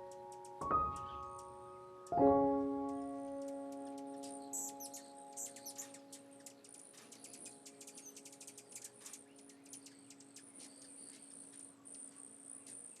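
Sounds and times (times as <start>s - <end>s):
insect trill: 0.0s - 2.2s, 2.8s - 13.0s
bird chirps: 0.0s - 13.0s.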